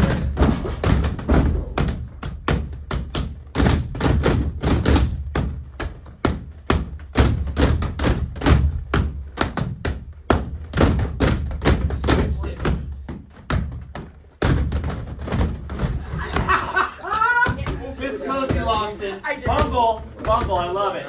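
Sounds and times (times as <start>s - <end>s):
hands slapping beach balls: 0.0s - 21.0s.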